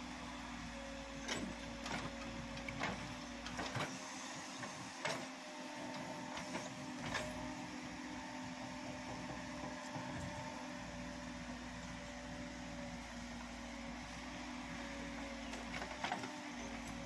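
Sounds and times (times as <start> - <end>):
diesel engine whining under load: 0.0 - 17.0.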